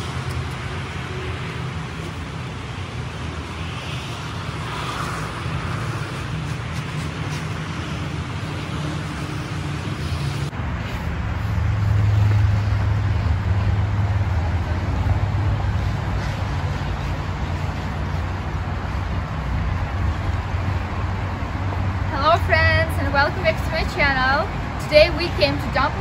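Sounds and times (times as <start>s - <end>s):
traffic rumble of passing cars: 0.0s - 26.0s.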